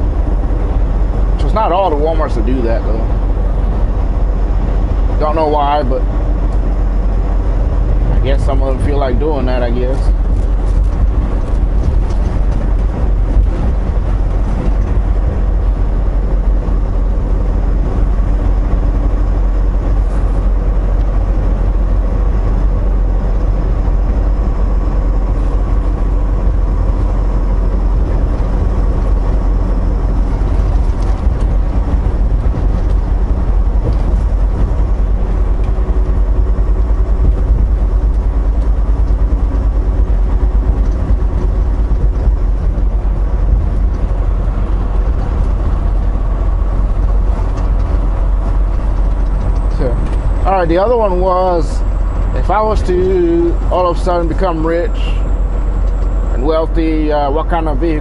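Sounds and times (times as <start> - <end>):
truck engine and road drone: 0.0 - 58.0.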